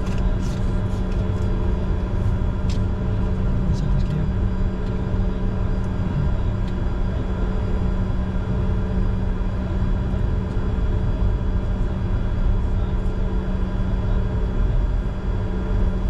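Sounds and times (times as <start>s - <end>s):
jet engines idling in cockpit: 0.0s - 16.0s.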